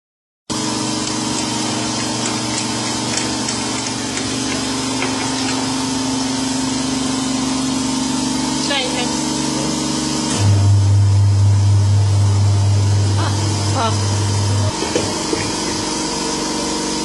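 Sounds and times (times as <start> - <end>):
machine motor humming: 0.5 - 17.0.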